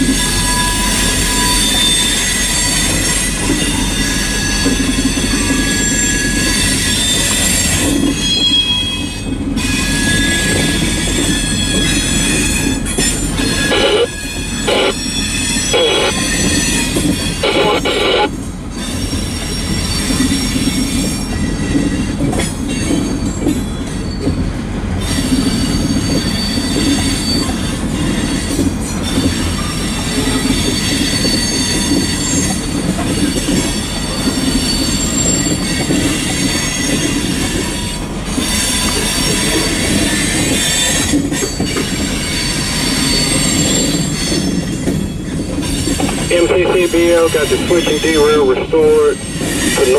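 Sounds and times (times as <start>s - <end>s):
wheel squeals: 0.0s - 17.6s, 18.7s - 46.3s
train wheels rumbling and clattering: 0.0s - 49.9s.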